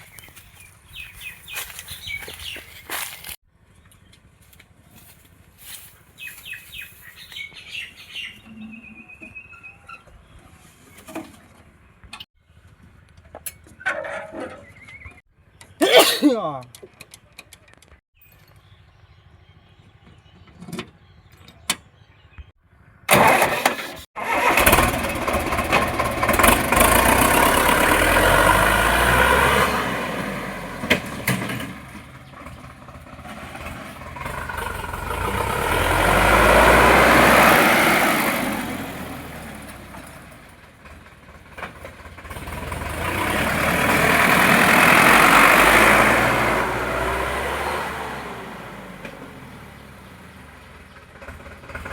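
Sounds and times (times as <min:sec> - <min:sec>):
tractor diesel engine running: 0:00.0 - 0:09.5, 0:18.6 - 0:51.9.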